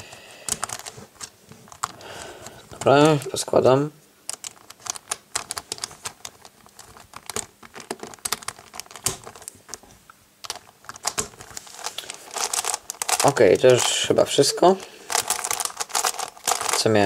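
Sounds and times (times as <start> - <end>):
plastic cube pieces clicking: 0.0 - 3.4, 4.3 - 9.8, 10.4 - 14.0, 15.1 - 17.0.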